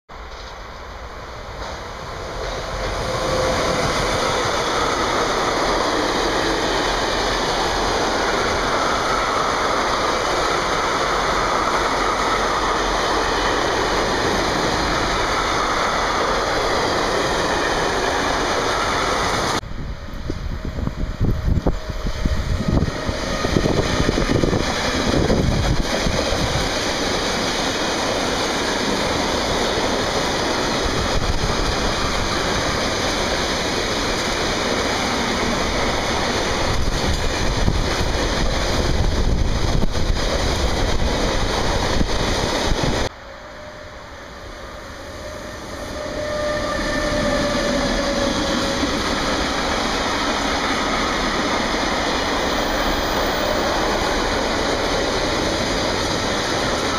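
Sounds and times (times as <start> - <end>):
electric locomotive rumble: 0.1 - 56.9.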